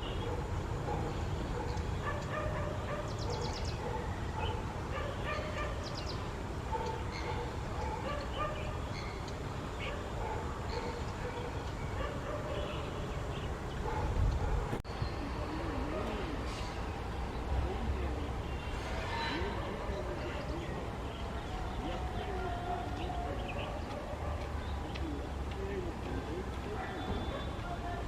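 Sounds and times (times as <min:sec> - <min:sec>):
birds calling: 0:00.0 - 0:28.0
birds rattling chatter: 0:00.0 - 0:28.0.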